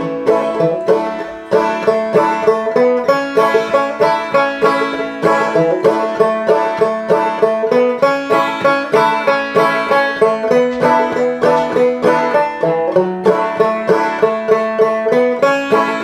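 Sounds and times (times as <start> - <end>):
banjo playing: 0.0 - 16.0.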